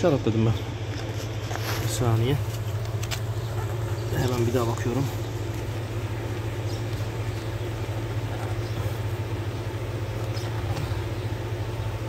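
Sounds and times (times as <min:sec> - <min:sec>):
air compressor humming: 0:00.0 - 0:12.0.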